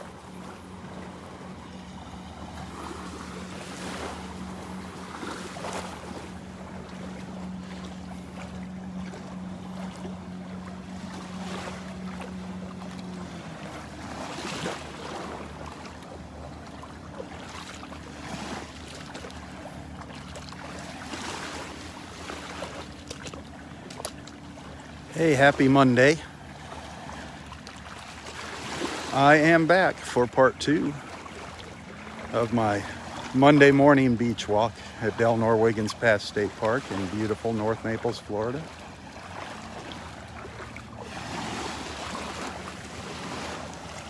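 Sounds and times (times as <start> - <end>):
motorboat engine drone: 0.0 - 44.0.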